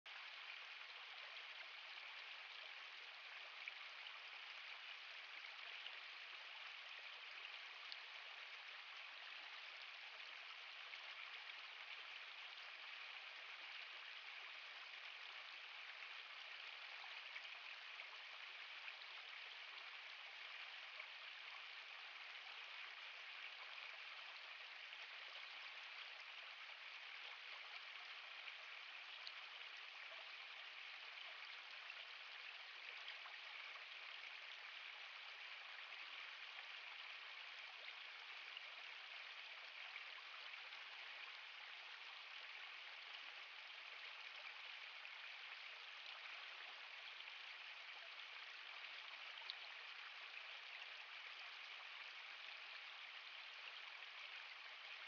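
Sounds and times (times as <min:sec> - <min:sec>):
stream running over stones: 0:00.1 - 0:55.0.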